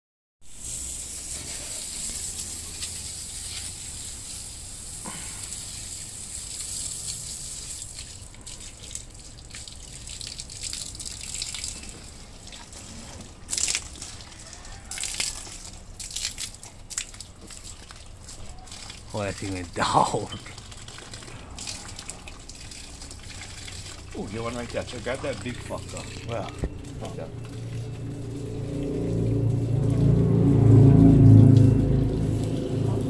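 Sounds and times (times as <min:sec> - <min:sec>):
water running from garden hose: 0:00.5 - 0:33.0.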